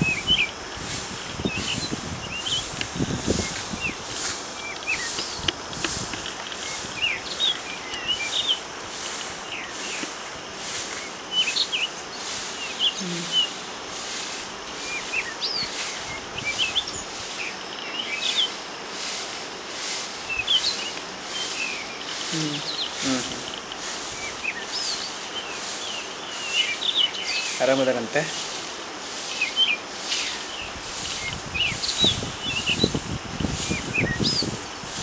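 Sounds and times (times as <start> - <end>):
small birds chirping: 0.0 - 34.6
pulsing outdoor hiss: 0.0 - 35.0.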